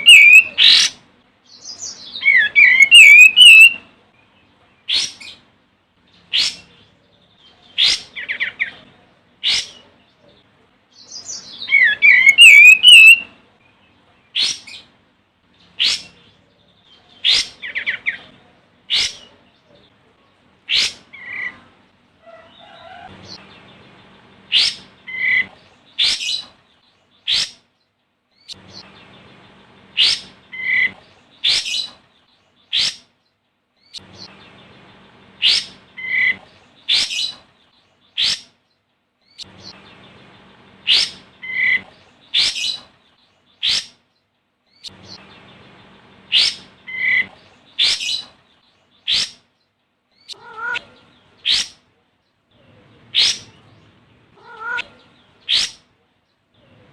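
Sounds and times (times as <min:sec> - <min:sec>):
bird warbling song: 0:00.0 - 0:56.9.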